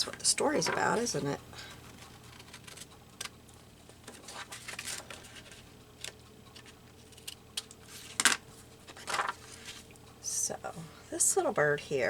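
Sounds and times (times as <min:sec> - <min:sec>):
paper rustling: 0:00.2 - 0:09.9.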